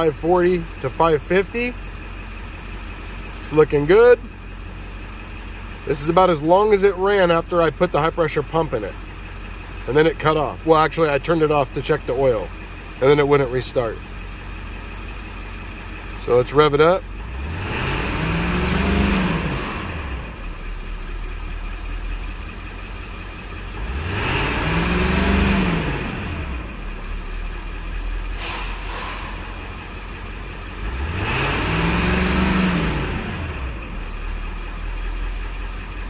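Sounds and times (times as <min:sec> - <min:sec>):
diesel engine idling: 0:00.0 - 0:36.0
diesel engine revving: 0:00.0 - 0:36.0.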